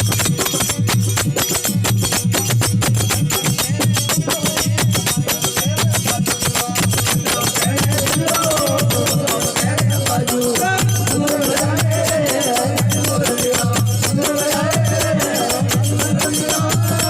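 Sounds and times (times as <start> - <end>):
jingling hand percussion: 0.0 - 17.0
pulsing low drum beat: 0.0 - 17.0.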